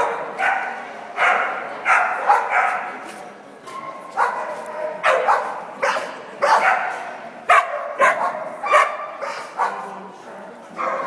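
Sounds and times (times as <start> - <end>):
dog barking: 0.0 - 2.9, 4.2 - 10.0, 10.8 - 11.0.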